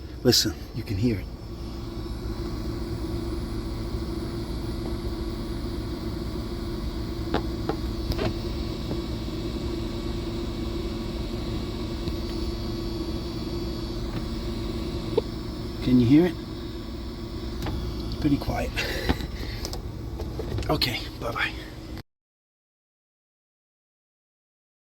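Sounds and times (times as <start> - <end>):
car engine idling: 0.0 - 22.0
electric fuel pump humming: 0.0 - 22.0.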